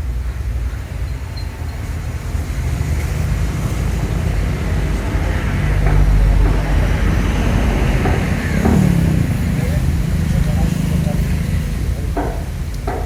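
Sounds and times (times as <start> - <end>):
vehicle rumbling past: 0.0 - 13.0.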